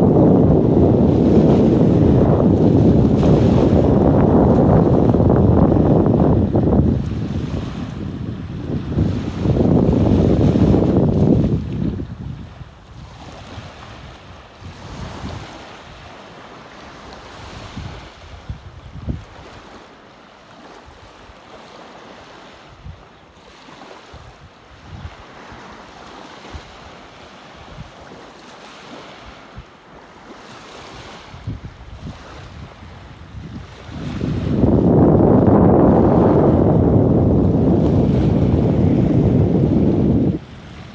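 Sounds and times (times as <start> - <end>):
wind buffeting microphone: 0.0 - 19.8, 20.6 - 23.1, 23.7 - 28.2, 28.9 - 40.9
sea surf washing on shore: 0.0 - 40.9.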